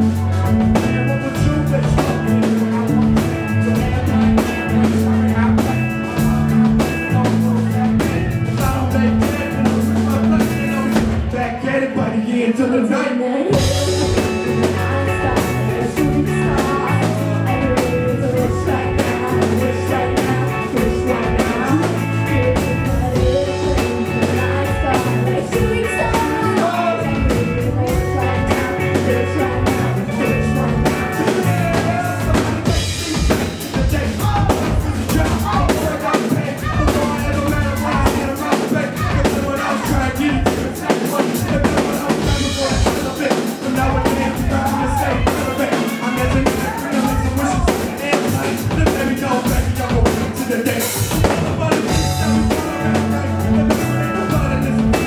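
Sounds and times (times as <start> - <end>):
drum kit: 0.0 - 11.7, 13.5 - 55.0
electric guitar: 0.0 - 11.8, 13.3 - 55.0
bass line: 0.0 - 12.9, 13.5 - 55.0
keyboards: 0.0 - 55.0
lead vocal on microphone: 0.0 - 55.0.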